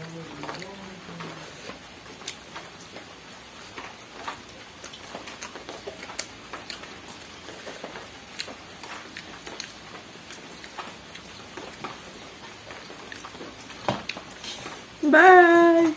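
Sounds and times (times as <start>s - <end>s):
eating by hand clicks and smacks: 0.0s - 15.0s
steady rain falling: 0.0s - 15.9s.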